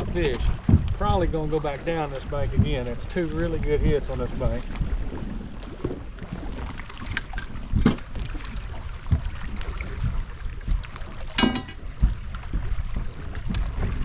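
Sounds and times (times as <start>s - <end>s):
boat engine low rumble: 0.0s - 14.0s.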